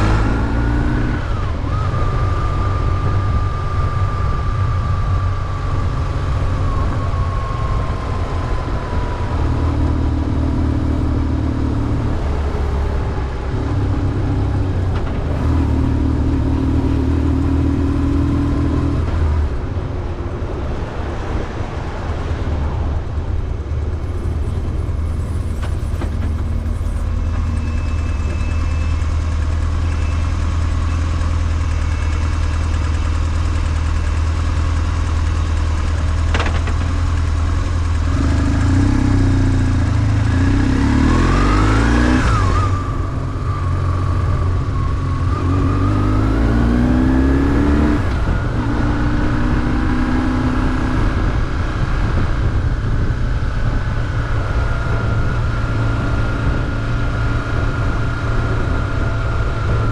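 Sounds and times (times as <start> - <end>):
motorcycle engine accelerating: 0.0 - 20.0, 23.4 - 59.9.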